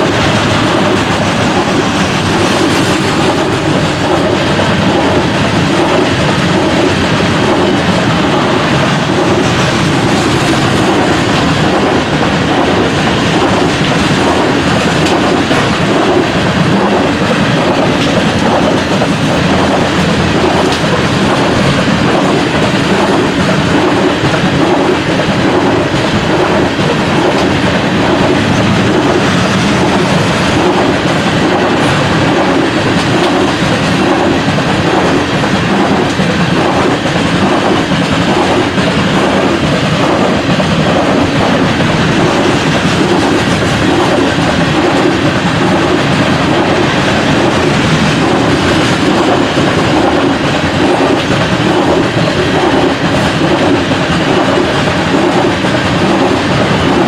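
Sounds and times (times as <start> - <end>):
train cars rumbling past: 0.0 - 57.0
wheels clacking over rail joints: 0.0 - 57.0.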